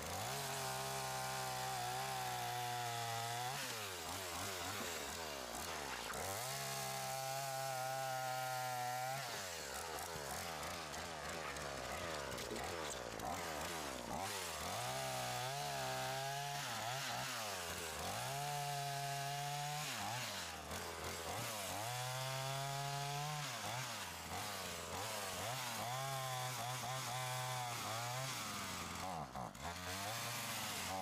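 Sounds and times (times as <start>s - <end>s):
small engine revving: 0.0s - 31.0s.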